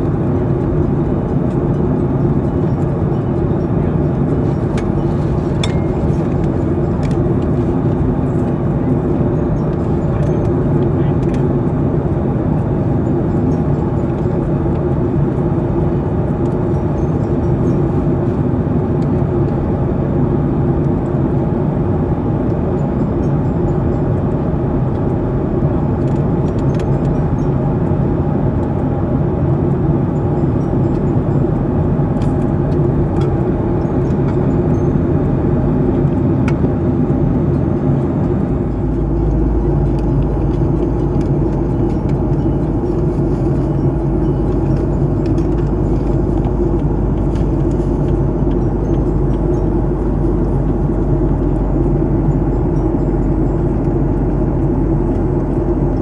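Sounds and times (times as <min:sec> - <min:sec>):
airliner cabin drone: 0:00.0 - 0:56.0
constant hum: 0:00.0 - 0:56.0
deep rumble: 0:00.0 - 0:56.0.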